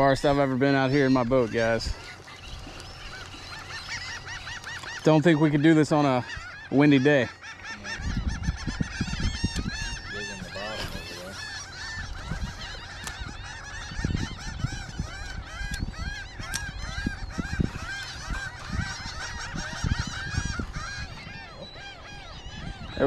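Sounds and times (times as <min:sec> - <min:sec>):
low buffeting noise: 0:00.0 - 0:23.0
seagulls calling: 0:00.0 - 0:23.0.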